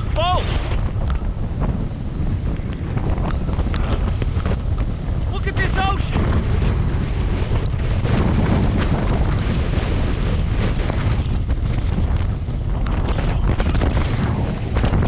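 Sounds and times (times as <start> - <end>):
heavy surf: 0.0 - 15.0
wind buffeting microphone: 0.0 - 15.0.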